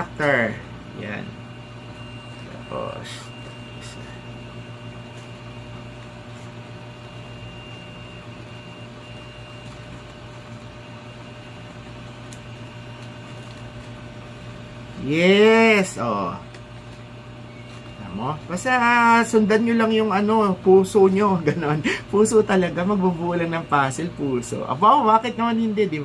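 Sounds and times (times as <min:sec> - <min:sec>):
electric fan humming and whining: 0:00.0 - 0:26.0.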